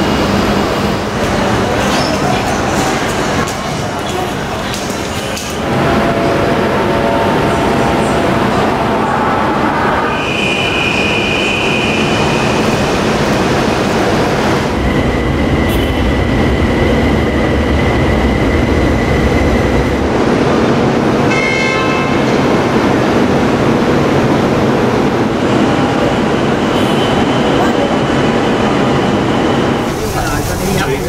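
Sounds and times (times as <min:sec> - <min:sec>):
train rumble and hum: 0:00.0 - 0:31.0.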